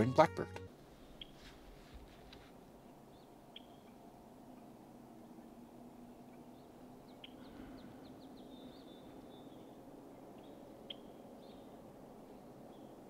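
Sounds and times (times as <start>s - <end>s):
blackbird calls and buzzy trill: 0.0s - 1.4s, 2.8s - 13.0s
low background noise: 0.0s - 13.0s.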